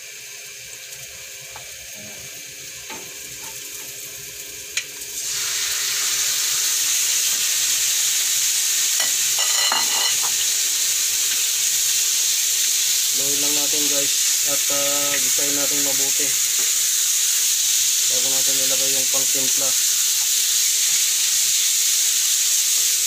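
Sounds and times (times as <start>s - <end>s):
meat sizzling in a wok: 0.0s - 23.0s.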